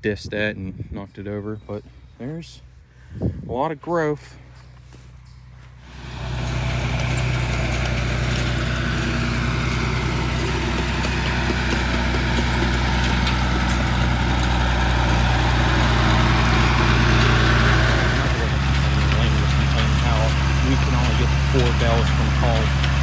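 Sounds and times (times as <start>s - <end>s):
tractor engine running: 3.8s - 23.0s.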